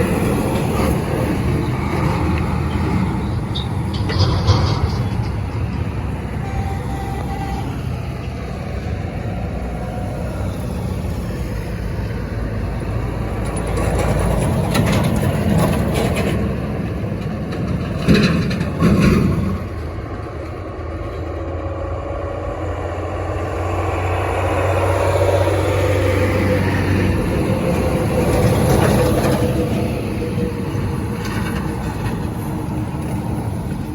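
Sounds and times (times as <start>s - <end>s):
road traffic: 0.0s - 33.9s
vehicles passing: 0.0s - 33.9s.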